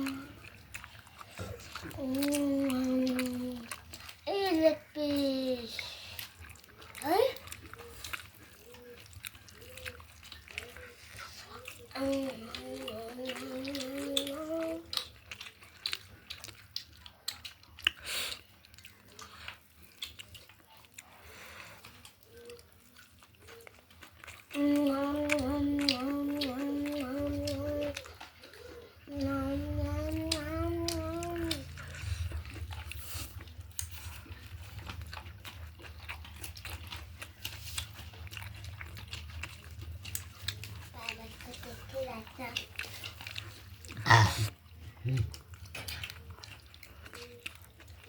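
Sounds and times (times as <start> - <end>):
chewing: 0.0 - 48.0.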